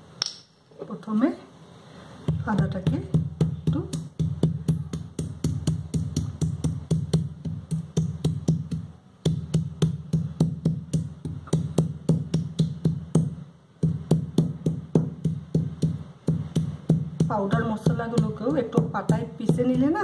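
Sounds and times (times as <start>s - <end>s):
stone-on-stone pounding knocks: 2.3s - 20.0s.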